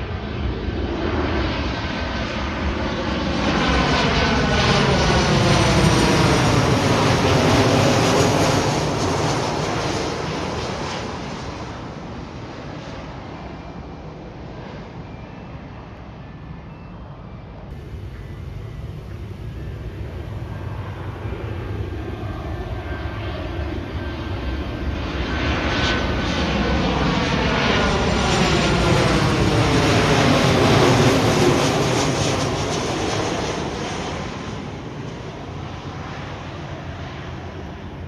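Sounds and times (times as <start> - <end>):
jet airliner passing overhead: 0.0 - 38.0.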